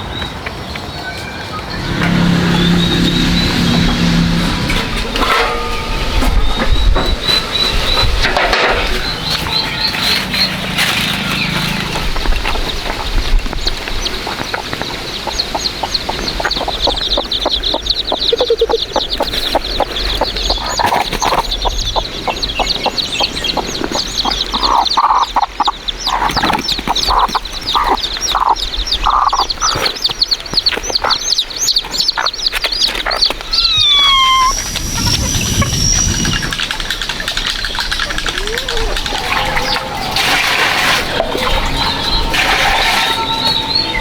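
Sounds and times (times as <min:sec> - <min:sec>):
chickens clucking: 0:00.0 - 0:44.0
chicks peeping: 0:00.0 - 0:44.0
falling bird calls: 0:00.0 - 0:44.0.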